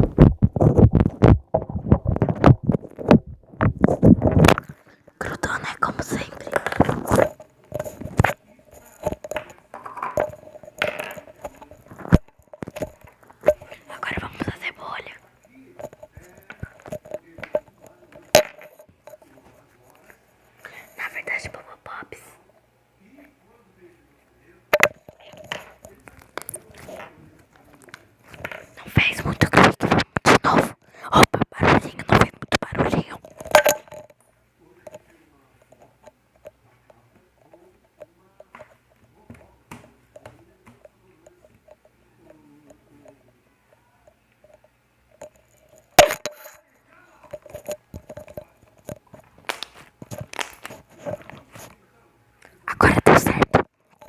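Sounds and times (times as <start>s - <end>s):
faint scattered small sounds: 0.0s - 54.0s.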